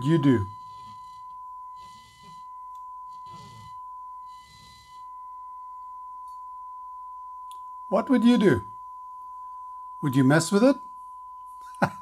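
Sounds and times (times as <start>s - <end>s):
steady test tone: 0.0s - 11.7s.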